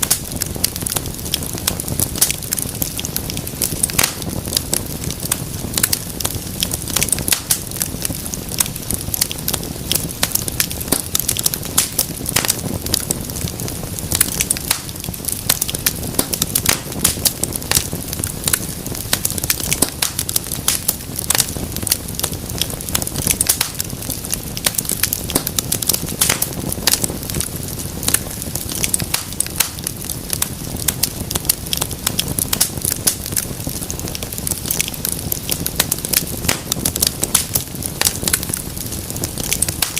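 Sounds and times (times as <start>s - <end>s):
burning logs crackling: 0.0s - 39.9s
low rumble of flames: 0.0s - 39.9s.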